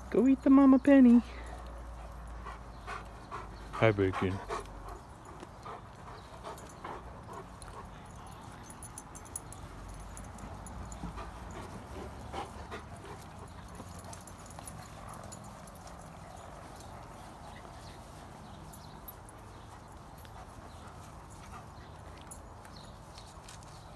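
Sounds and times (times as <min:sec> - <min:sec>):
dogs scuffling on grass: 0:00.0 - 0:23.9.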